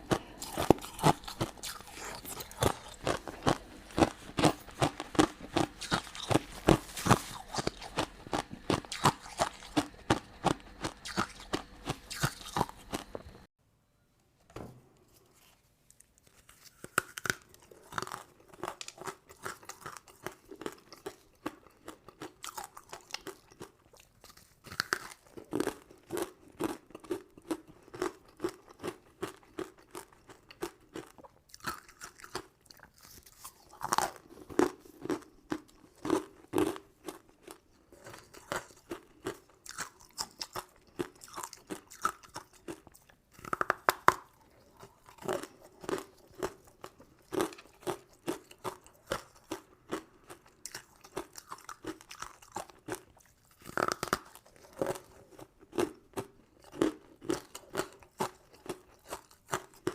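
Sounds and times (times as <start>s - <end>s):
crunching hard candy: 0.0s - 13.5s, 16.0s - 59.9s
soft slow chewing: 0.0s - 13.5s, 15.0s - 59.9s.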